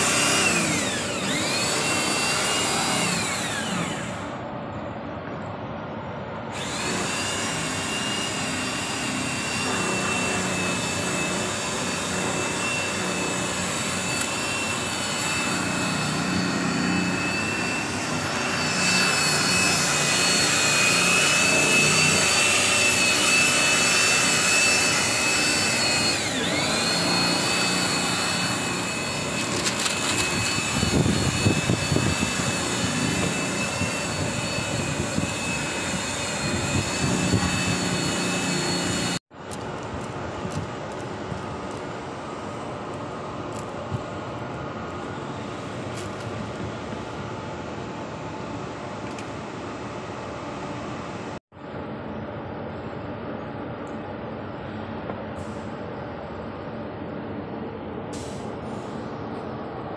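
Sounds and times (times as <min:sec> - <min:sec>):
machine running with high whine: 0:00.0 - 0:58.1.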